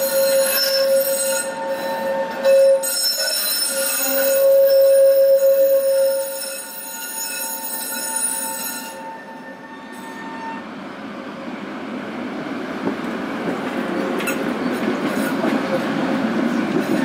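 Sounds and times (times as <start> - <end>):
tram wheels squealing: 0.0 - 10.8, 13.8 - 17.0
tram rumbling past: 0.0 - 17.0.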